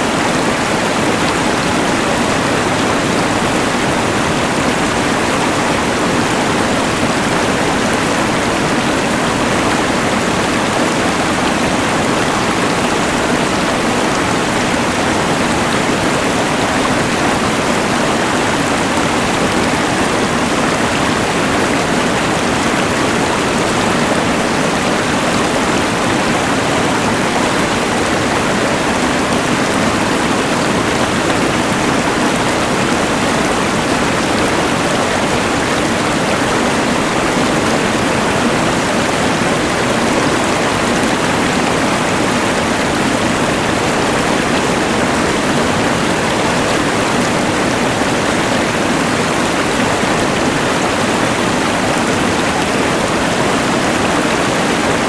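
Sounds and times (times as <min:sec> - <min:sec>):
rushing river: 0:00.0 - 0:55.0.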